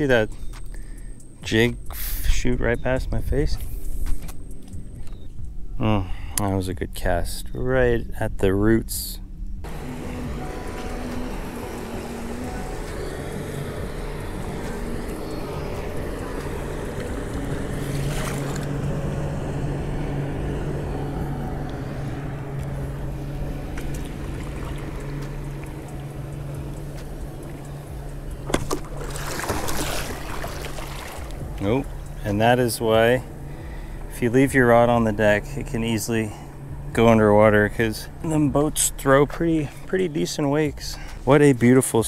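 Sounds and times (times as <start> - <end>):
motorboat engine running: 6.9 - 42.0.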